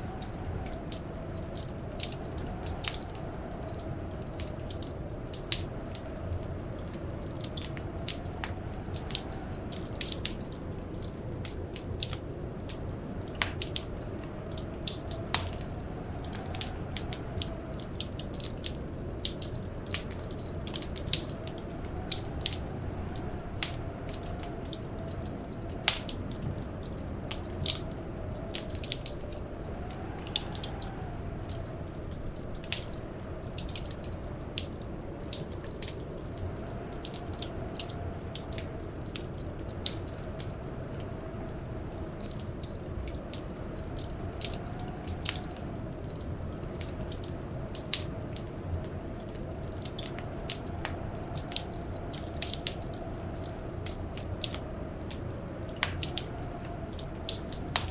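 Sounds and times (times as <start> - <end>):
whistling wind: 0.0 - 57.9
wood fire crackling: 0.0 - 57.9.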